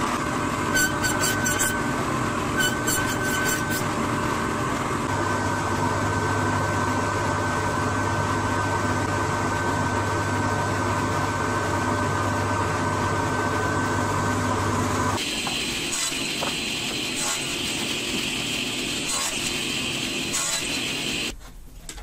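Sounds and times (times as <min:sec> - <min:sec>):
high whine of spinning blade: 0:00.0 - 0:21.3.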